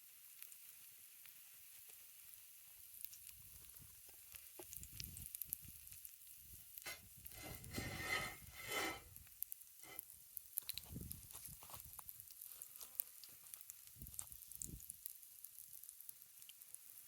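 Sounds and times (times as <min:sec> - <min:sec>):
batter sizzling in a skillet: 0:00.0 - 0:17.0.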